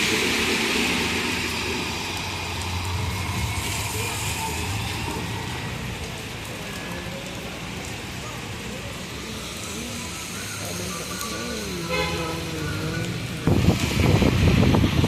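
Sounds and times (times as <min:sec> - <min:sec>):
rain hiss and wet road noise: 0:00.0 - 0:15.0
vehicle engine hum: 0:00.0 - 0:15.0.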